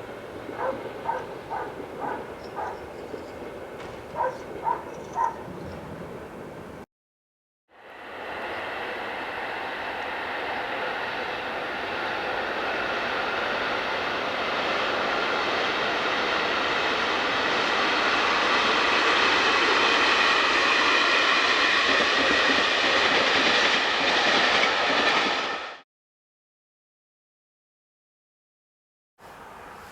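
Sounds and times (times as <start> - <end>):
train rumble: 0.0 - 6.8, 7.8 - 25.8.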